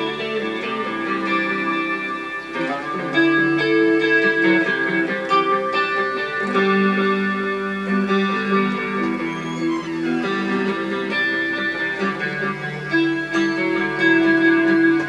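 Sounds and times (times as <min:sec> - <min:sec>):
electric guitar plucked notes: 0:00.0 - 0:15.0.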